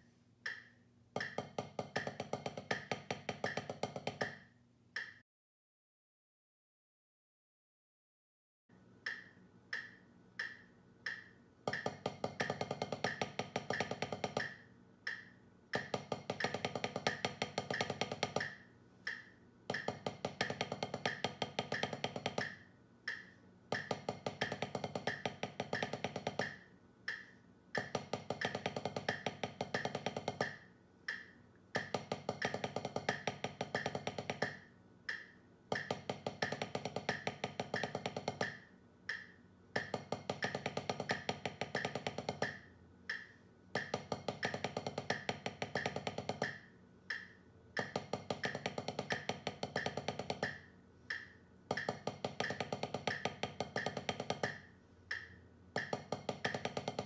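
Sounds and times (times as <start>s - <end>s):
drumsticks on practice pad: 0.0s - 5.2s, 9.0s - 57.0s
metronome clicking: 0.4s - 1.4s, 5.0s - 5.2s, 9.0s - 57.0s.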